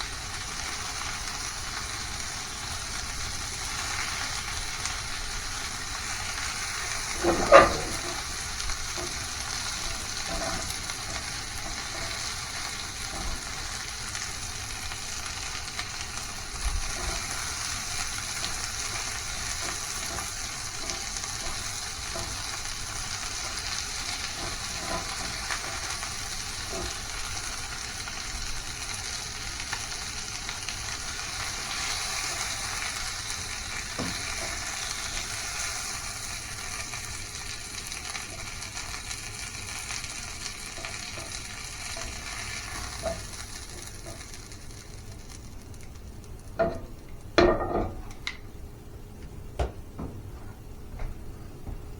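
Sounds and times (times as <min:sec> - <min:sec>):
food sizzling in a pan: 0:00.0 - 0:48.1.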